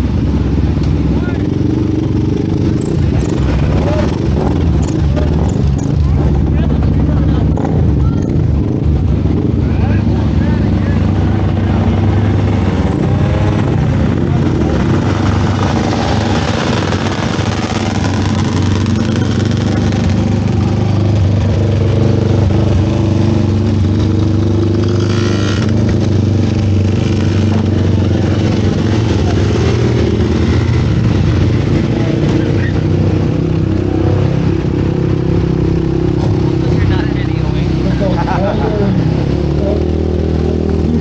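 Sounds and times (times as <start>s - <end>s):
small off-road engines running: 0.0s - 41.0s.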